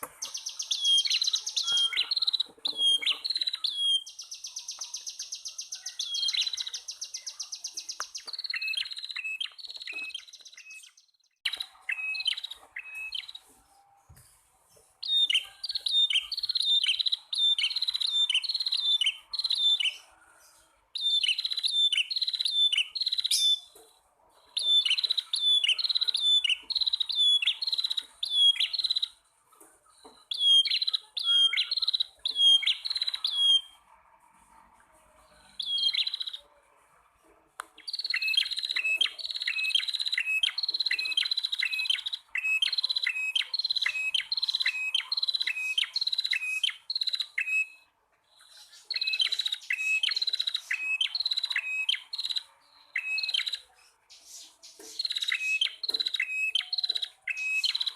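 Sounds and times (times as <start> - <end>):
bird chirping: 0.0 - 57.9.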